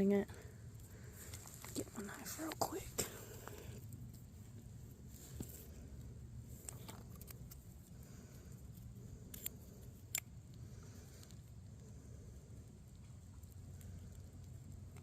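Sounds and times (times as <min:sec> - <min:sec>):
low rumble of handling: 0:00.0 - 0:15.0.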